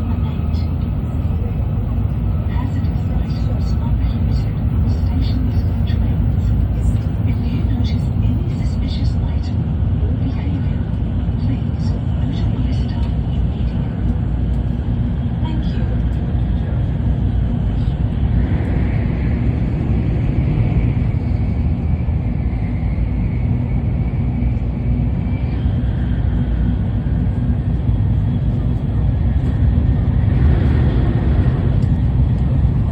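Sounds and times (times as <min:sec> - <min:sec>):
train running rumble: 0:00.0 - 0:32.9.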